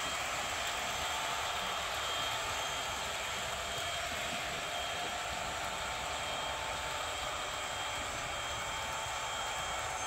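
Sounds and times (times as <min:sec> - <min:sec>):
model train whine: 0:00.0 - 0:10.0.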